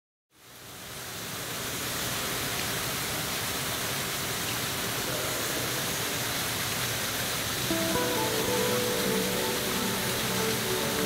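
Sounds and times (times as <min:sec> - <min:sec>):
steady rushing water: 0:00.3 - 0:11.0.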